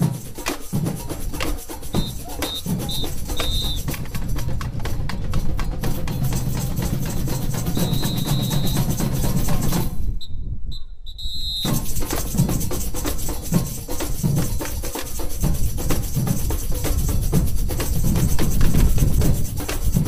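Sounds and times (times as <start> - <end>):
metal shakers rattling: 0.0 - 9.9, 11.6 - 20.0
deep drum beats: 0.0 - 10.0, 11.7 - 20.0.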